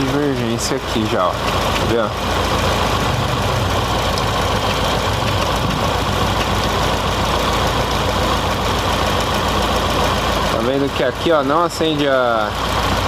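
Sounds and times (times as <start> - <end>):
misfiring car engine idling: 0.0 - 13.0.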